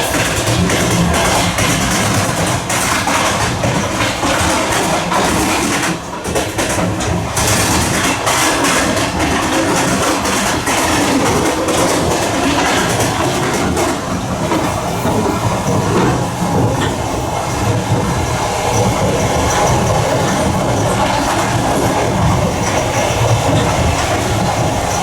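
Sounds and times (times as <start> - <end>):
train wheels rumbling: 0.0 - 25.0
wheels clicking over rail joints: 0.0 - 25.0.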